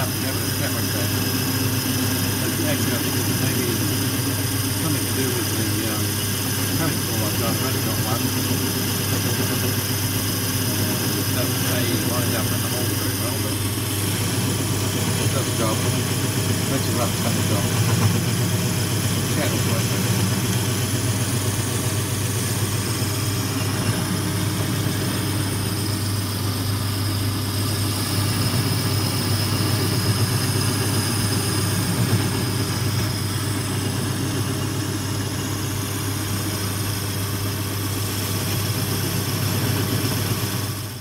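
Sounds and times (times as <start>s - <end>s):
tool cutting metal hissing: 0.0s - 36.8s
lathe motor hum: 0.0s - 41.0s.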